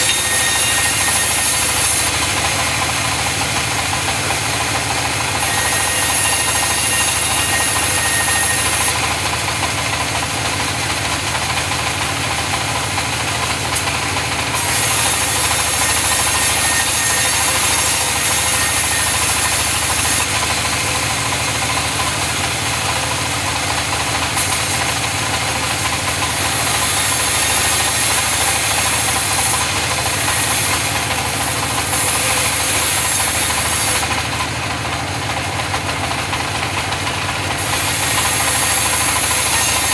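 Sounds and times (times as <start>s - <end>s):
saw hissing through wood: 0.0s - 12.1s, 12.8s - 35.1s, 37.4s - 39.9s.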